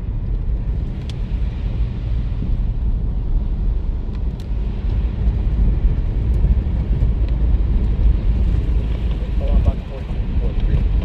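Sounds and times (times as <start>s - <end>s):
low rumble of snowstorm: 0.0s - 11.0s.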